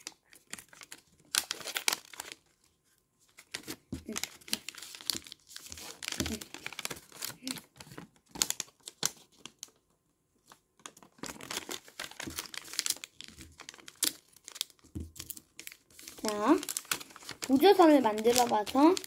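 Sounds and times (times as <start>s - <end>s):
paper being folded and creased: 0.0s - 9.8s, 10.4s - 19.0s.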